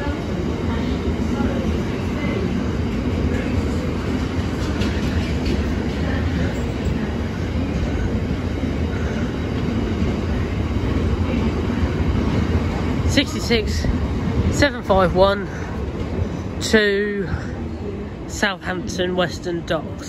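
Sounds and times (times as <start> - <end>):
train wagons rolling on rails: 0.0 - 20.0.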